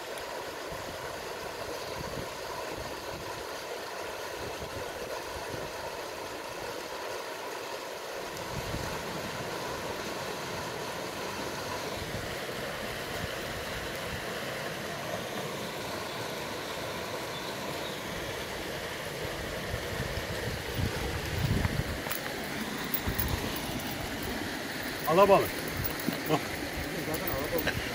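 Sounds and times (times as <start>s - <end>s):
stream water rushing: 0.0s - 27.9s.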